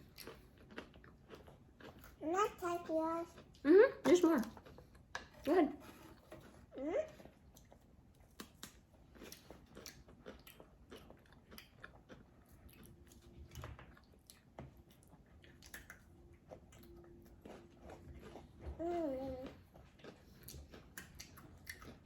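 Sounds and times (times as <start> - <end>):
people chewing and crunching food: 0.0 - 22.0.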